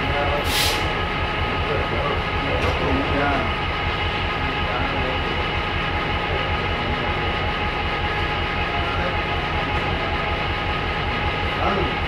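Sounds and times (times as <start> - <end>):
diesel train engine idling: 0.0 - 12.0.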